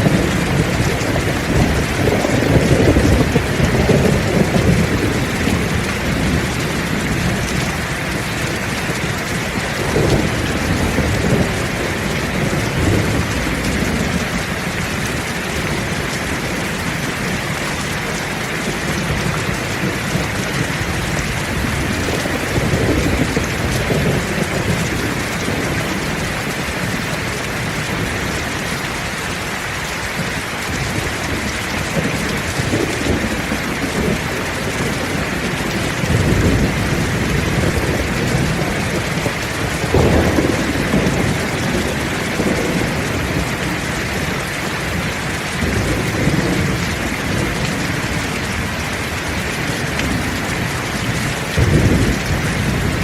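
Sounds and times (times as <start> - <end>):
heavy rain falling: 0.0 - 53.0
thunder rumbling: 0.0 - 53.0.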